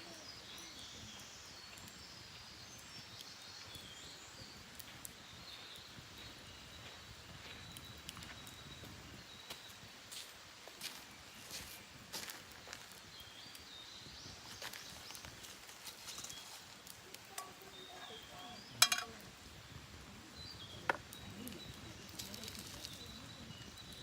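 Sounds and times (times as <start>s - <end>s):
birds singing: 0.0s - 24.0s
campfire crackling and popping: 0.0s - 24.0s.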